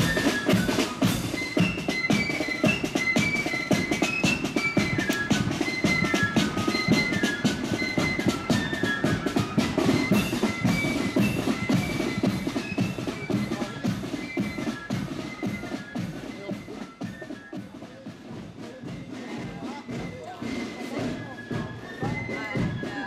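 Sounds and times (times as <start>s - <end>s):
flutes playing a melody: 0.0s - 23.0s
marching side drums and bass drum: 0.0s - 23.0s.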